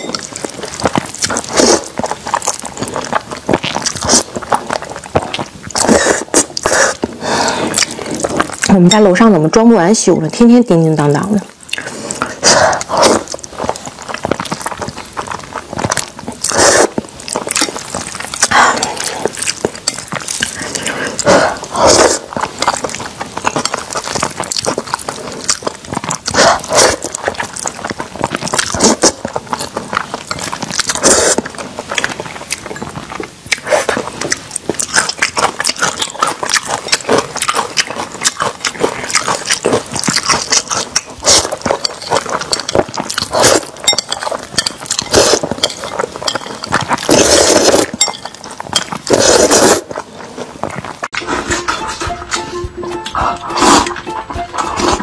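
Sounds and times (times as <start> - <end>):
person slurping and chewing noodles: 0.0 - 9.3, 10.4 - 55.0.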